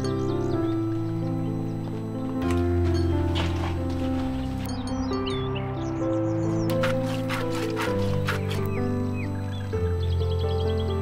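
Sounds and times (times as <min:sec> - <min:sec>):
background music of held notes: 0:00.0 - 0:11.0
birds chirping: 0:00.0 - 0:11.0.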